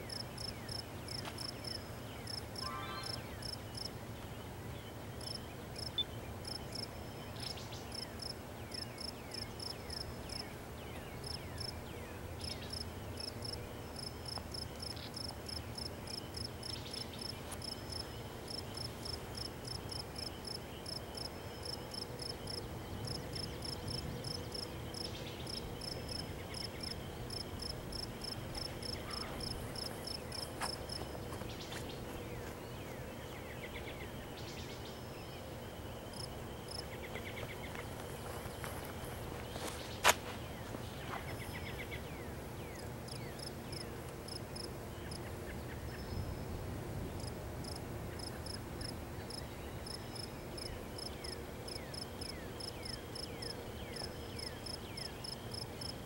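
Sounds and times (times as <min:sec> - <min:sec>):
crickets chirping: 0:00.0 - 0:04.0, 0:05.2 - 0:10.5, 0:11.2 - 0:45.2, 0:47.2 - 0:56.0.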